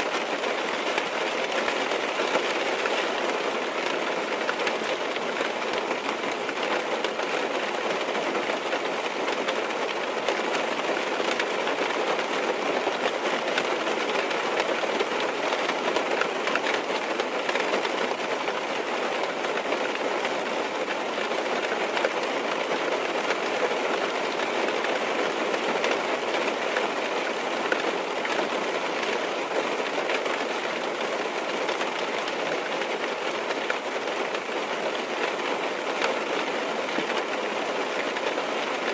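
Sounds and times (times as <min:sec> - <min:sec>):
rain on car roof: 0:00.0 - 0:38.9.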